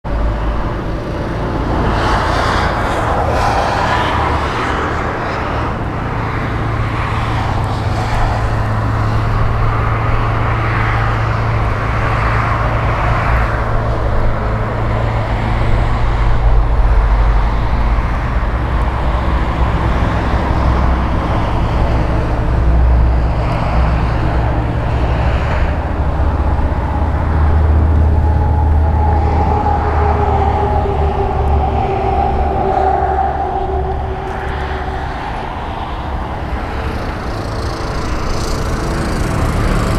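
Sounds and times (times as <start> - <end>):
engine hum: 0.0 - 39.9
road traffic noise: 0.0 - 39.9.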